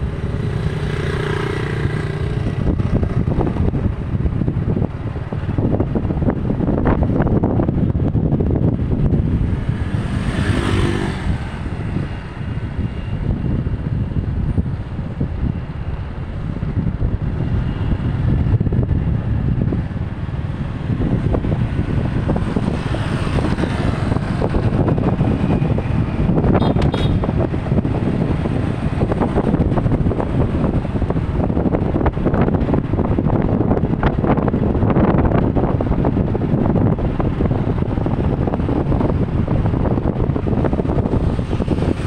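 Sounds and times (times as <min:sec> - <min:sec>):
vehicles passing: 0:00.0 - 0:42.0
wind buffeting microphone: 0:00.0 - 0:42.0.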